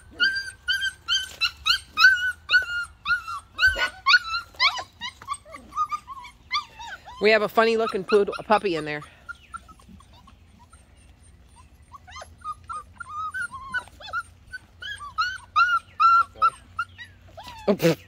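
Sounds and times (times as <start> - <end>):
puppies whimpering and yipping: 0.0 - 18.0.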